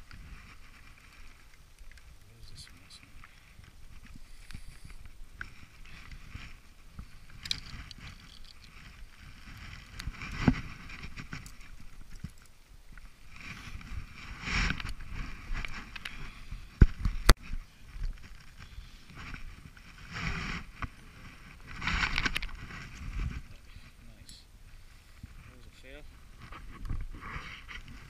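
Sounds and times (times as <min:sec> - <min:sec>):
handling and rustling on microphone: 0:00.0 - 0:28.0.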